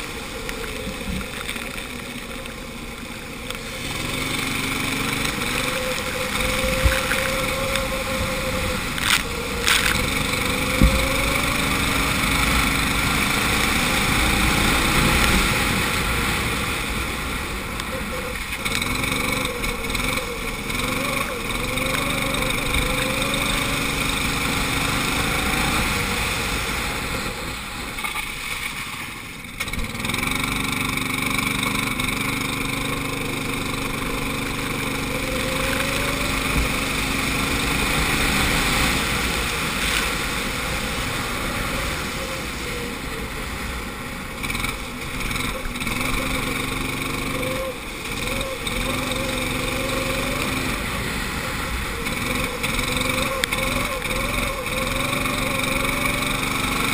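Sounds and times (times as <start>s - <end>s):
go-kart engine revving: 0.0s - 56.9s.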